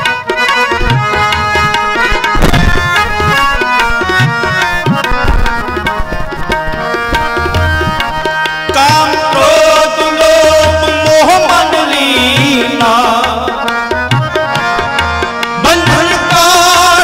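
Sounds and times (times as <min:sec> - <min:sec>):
harmonium chords: 0:00.0 - 0:17.0
tabla strokes: 0:00.0 - 0:17.0.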